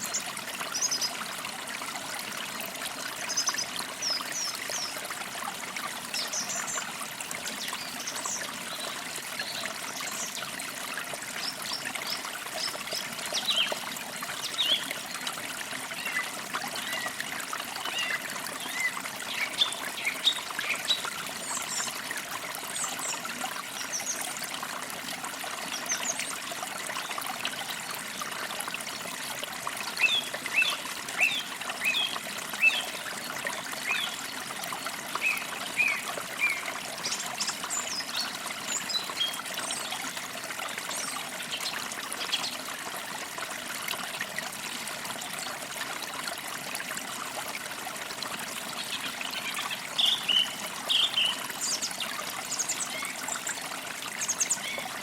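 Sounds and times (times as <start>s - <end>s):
creek trickling: 0.0s - 55.0s.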